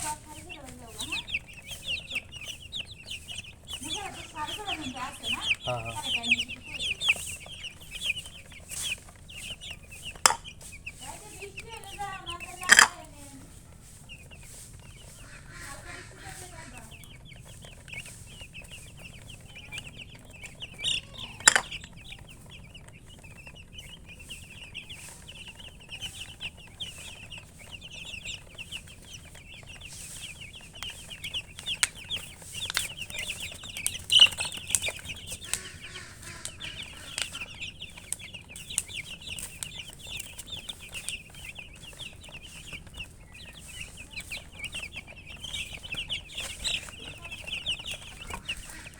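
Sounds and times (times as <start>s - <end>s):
chickens clucking: 0.0s - 48.9s
chicks chirping: 0.0s - 48.9s.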